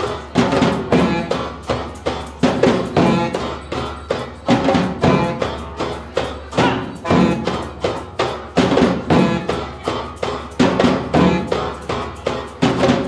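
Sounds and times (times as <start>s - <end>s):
bass drums and djembes beating: 0.0s - 13.0s.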